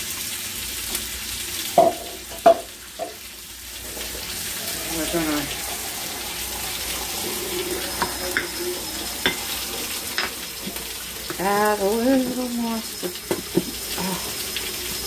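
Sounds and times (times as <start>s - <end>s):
running water: 0.0s - 15.0s
steak sizzling in a frying pan: 0.0s - 15.0s.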